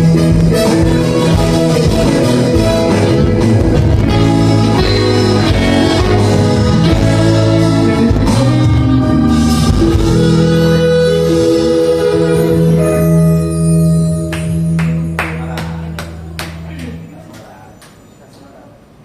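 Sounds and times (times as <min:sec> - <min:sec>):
band music with guitar: 0:00.0 - 0:18.1.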